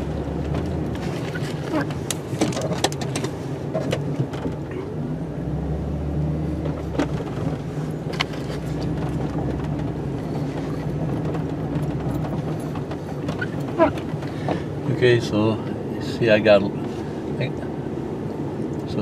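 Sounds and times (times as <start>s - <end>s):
truck engine running: 0.0s - 18.7s.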